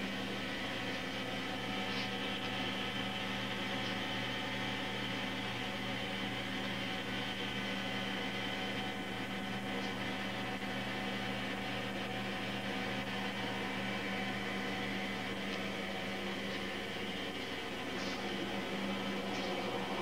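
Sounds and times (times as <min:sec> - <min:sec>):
steady hum with overtones: 0:00.0 - 0:20.0.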